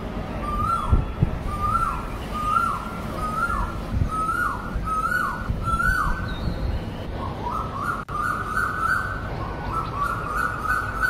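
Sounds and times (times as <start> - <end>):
bird calling: 0.4 - 11.0.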